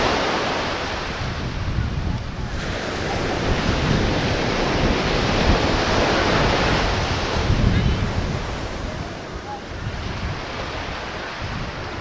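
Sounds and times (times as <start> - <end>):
ocean surf washing ashore: 0.0 - 12.0
wind buffeting microphone: 0.0 - 12.0.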